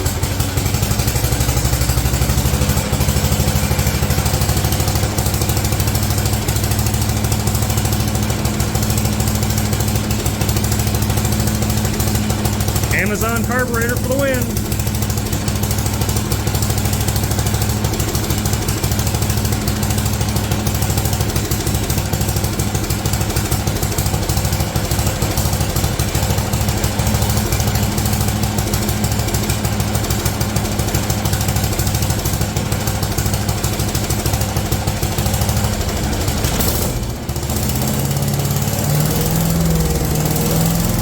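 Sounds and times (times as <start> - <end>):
small gas engine running: 0.0 - 41.0.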